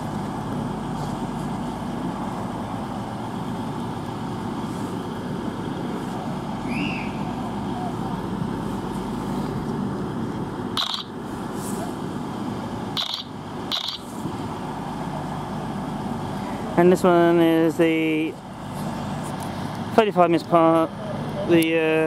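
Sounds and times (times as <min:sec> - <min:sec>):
train diesel engines idling: 0:00.0 - 0:22.0.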